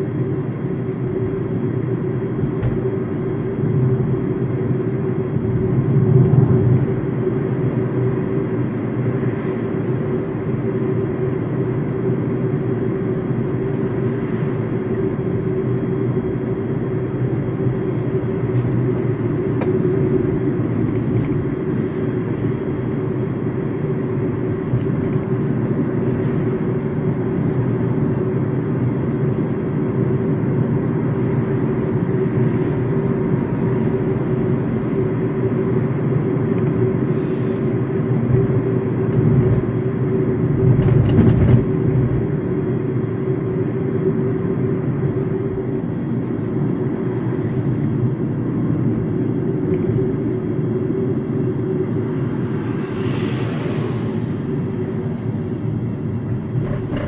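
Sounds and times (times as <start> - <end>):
road and engine noise in car cabin: 0.0 - 57.0.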